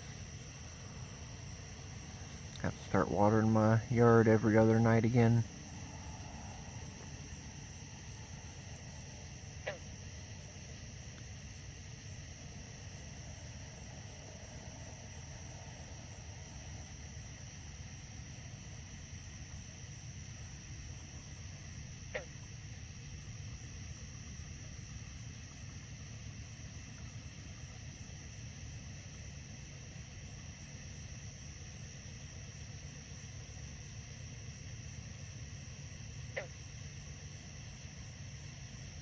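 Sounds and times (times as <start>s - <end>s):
crickets trilling: 0.0s - 39.0s
low steady hum: 0.0s - 39.0s.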